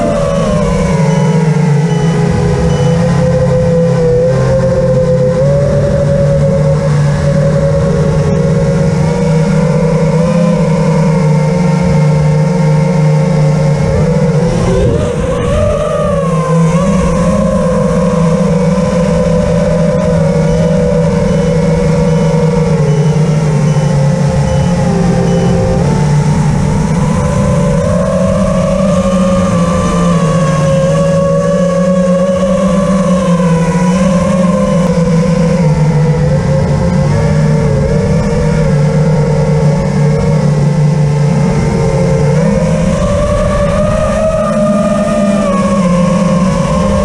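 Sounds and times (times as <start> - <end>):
model plane motor and propeller: 0.0 - 47.0
wind noise: 0.0 - 47.0.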